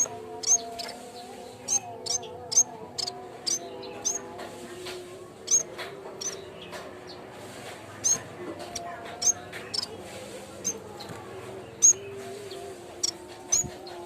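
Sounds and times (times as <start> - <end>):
warbler chirping: 0.0 - 4.4, 5.4 - 7.3, 8.0 - 14.0.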